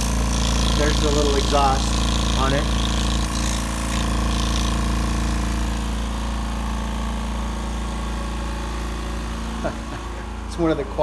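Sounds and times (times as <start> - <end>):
air compressor motor humming: 0.0 - 11.0.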